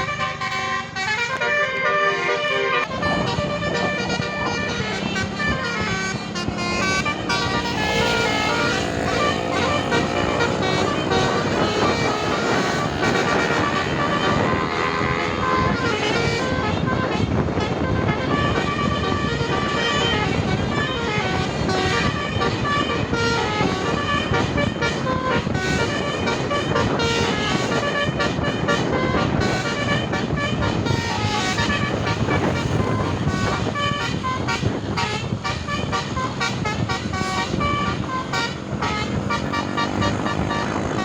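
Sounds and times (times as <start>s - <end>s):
engine and traffic noise: 0.0s - 41.0s
multi-tone bus horn tune: 0.0s - 41.0s.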